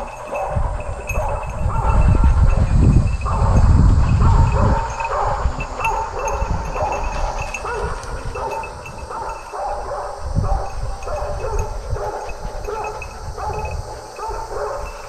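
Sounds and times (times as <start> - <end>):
dogs barking: 0.0 - 15.0
low rumble on microphone: 0.0 - 15.0.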